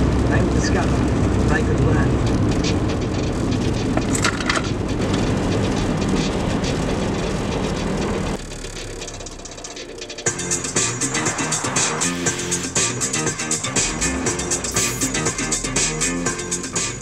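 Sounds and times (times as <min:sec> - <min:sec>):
low rumble with crackles: 0:00.0 - 0:16.1.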